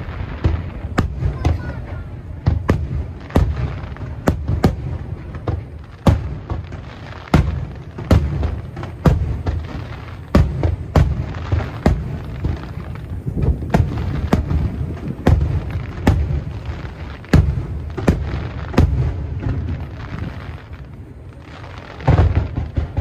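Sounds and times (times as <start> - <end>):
fireworks booming with echo: 0.0 - 23.0.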